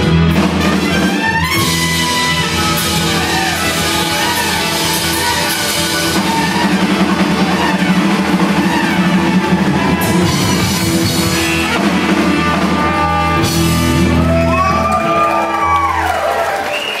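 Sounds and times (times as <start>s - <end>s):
rock band playing: 0.0s - 16.5s.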